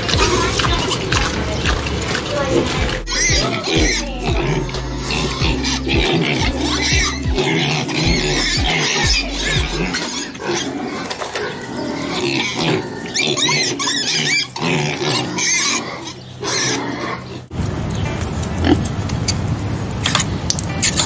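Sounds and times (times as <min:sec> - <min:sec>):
piglets grunting and squealing: 0:00.0 - 0:17.5
steady background noise: 0:00.0 - 0:21.0.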